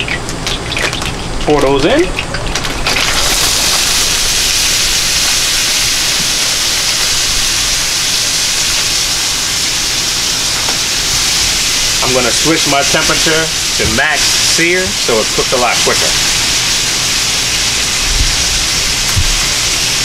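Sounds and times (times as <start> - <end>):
potatoes sizzling in hot oil: 0.0 - 20.0.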